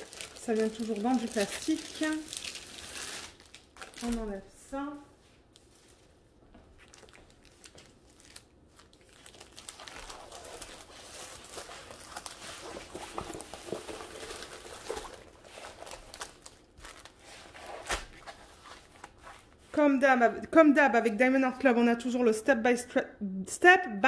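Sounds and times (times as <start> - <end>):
plastic wrapping crinkling: 0.0 - 19.8.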